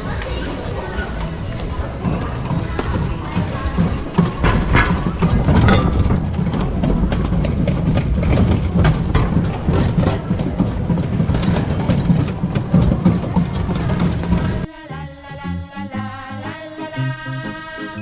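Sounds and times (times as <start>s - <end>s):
car engine running: 0.0s - 14.7s
background music: 0.0s - 18.0s.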